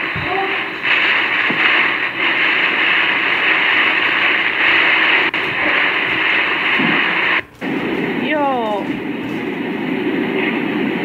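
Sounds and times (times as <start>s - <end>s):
storm wind: 0.0s - 11.0s.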